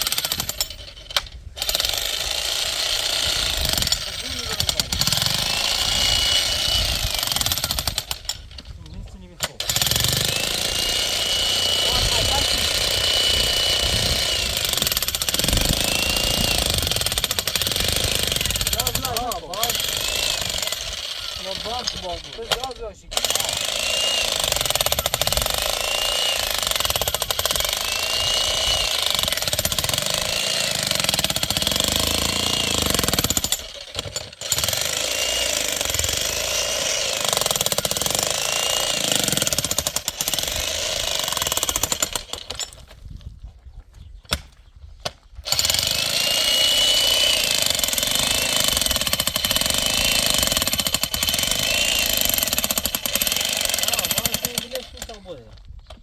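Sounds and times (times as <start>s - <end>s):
demolition hammer chiselling masonry: 0.0s - 42.9s, 45.5s - 55.4s.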